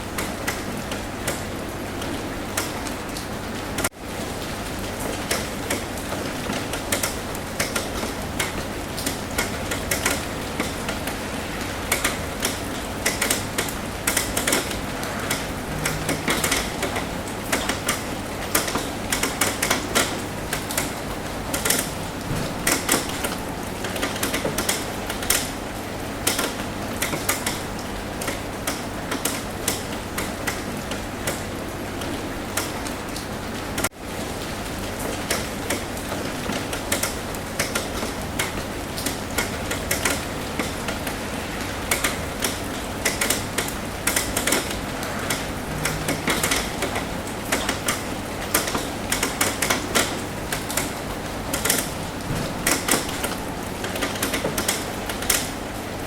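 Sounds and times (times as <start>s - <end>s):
rain hissing on a roof: 0.0s - 56.0s
raindrops tapping: 0.1s - 56.0s.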